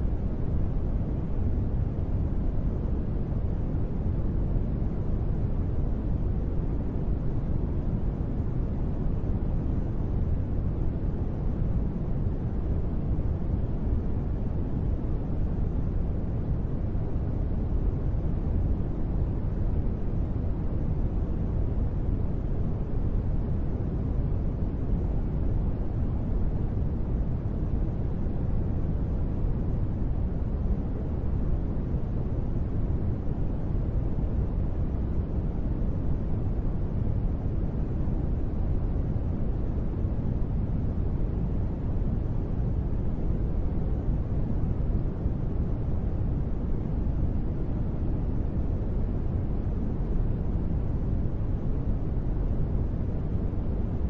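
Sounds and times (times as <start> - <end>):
deep steady white noise: 0.0 - 54.0.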